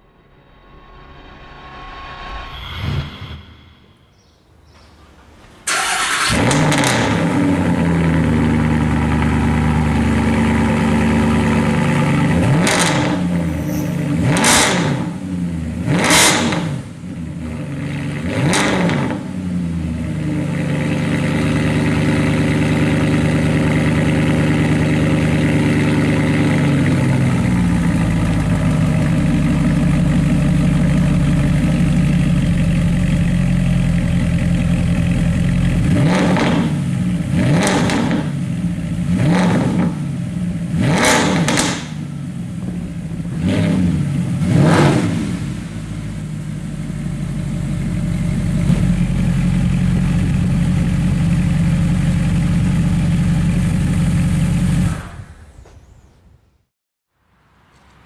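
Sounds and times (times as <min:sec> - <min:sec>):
car engine starting and idling: 0:04.8 - 0:55.4
car engine revving: 0:05.6 - 0:54.9.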